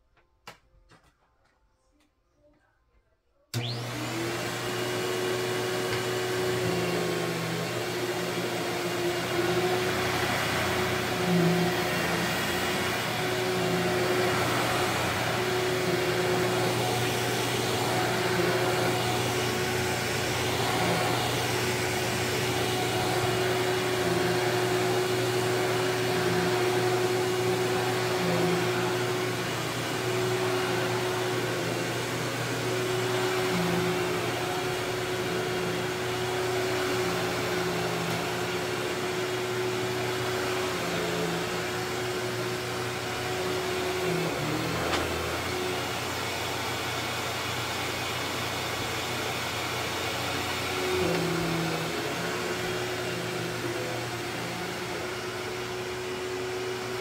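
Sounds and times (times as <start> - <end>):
upright vacuum cleaner on carpet: 3.5 - 57.0.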